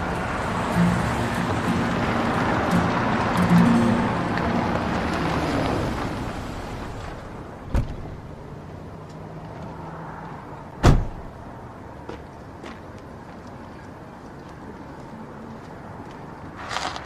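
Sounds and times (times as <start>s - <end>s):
vehicle rumble: 0.0s - 17.0s.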